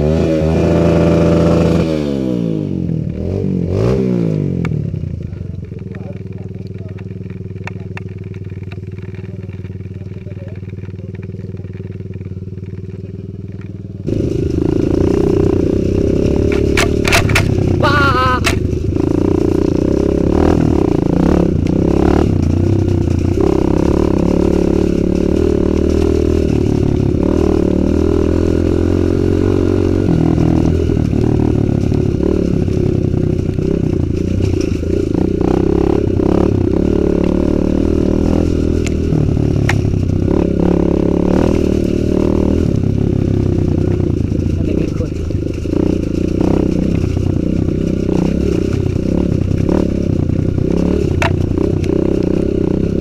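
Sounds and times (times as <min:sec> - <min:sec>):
dirt bike engine running: 0:00.0 - 0:53.0
bike clattering over rough ground: 0:04.6 - 0:28.8, 0:30.2 - 0:53.0
dirt bike engines idling: 0:04.6 - 0:53.0.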